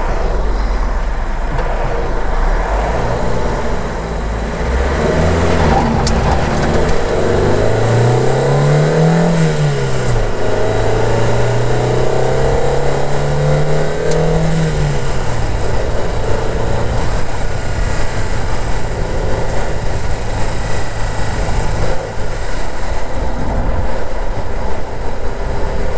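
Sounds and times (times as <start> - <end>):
car engine accelerating: 0.0 - 25.9
road noise: 0.0 - 25.9.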